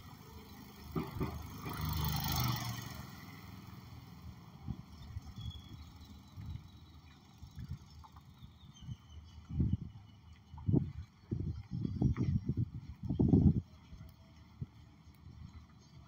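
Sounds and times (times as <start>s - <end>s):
small vehicle passing by: 0.0s - 16.0s.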